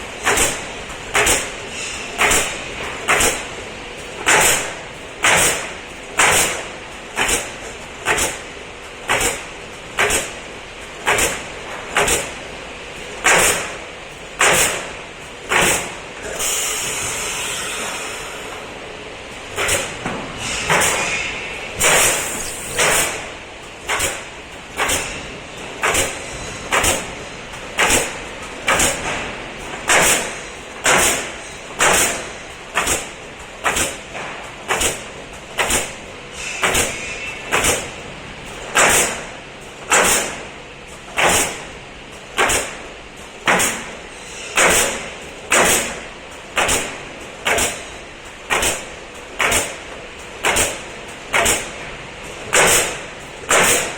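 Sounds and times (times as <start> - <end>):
pneumatic nailer shots with hiss: 0.2 - 18.6, 19.4 - 51.8, 52.4 - 53.9.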